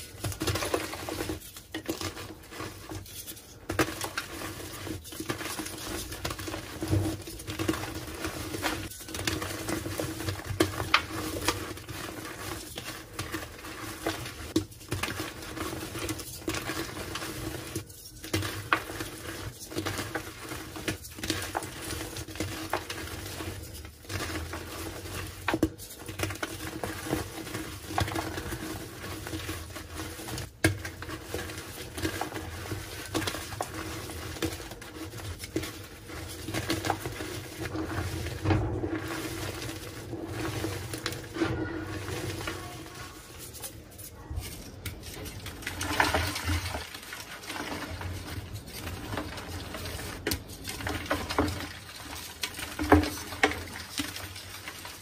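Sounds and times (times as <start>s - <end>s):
chalk crackling and crunching: 0.0s - 55.0s.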